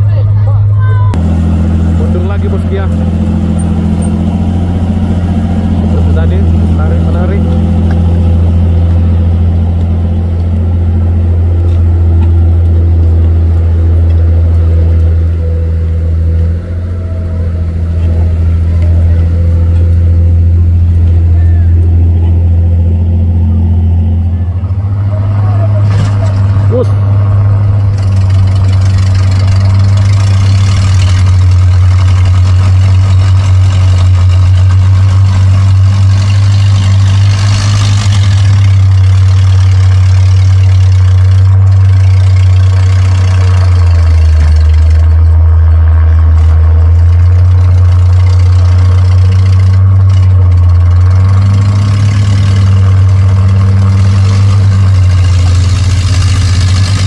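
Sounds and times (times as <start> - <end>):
truck engine humming: 0.0 - 57.0.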